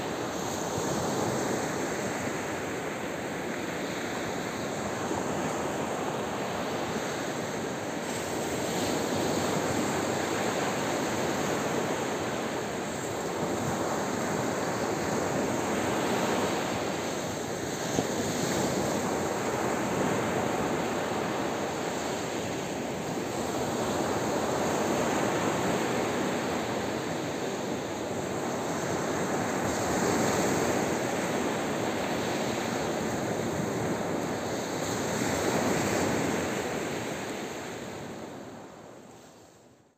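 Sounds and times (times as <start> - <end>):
sea surf breaking on beach: 0.0 - 39.4.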